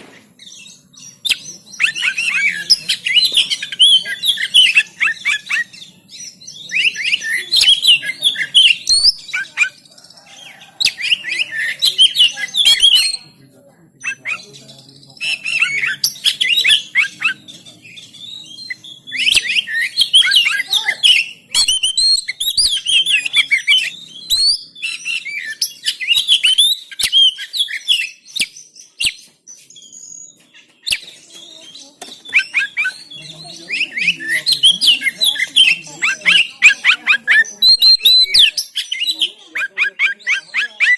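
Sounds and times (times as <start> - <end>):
bird singing whistles and trills: 0.0 - 13.4, 14.0 - 40.9.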